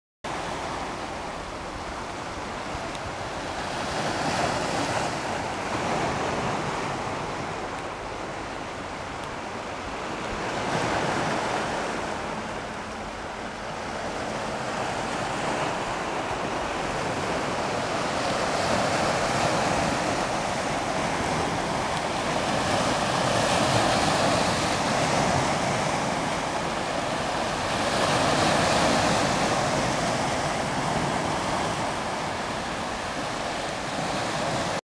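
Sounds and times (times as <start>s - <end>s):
waves washing over stony shore: 0.4s - 34.8s.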